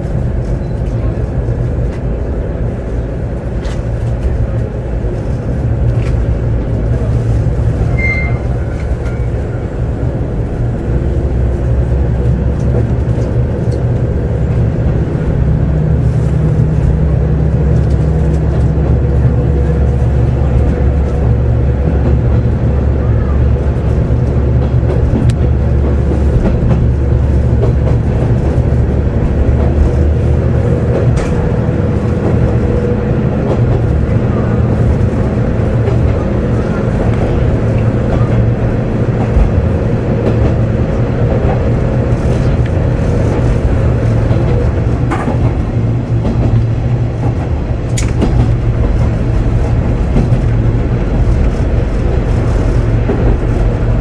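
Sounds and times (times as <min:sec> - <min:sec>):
train engine and wheels rumbling: 0:00.0 - 0:54.0.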